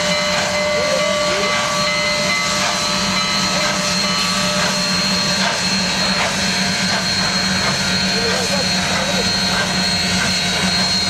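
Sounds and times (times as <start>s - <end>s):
steam hissing: 0.0s - 11.0s
whining tones: 0.0s - 11.0s.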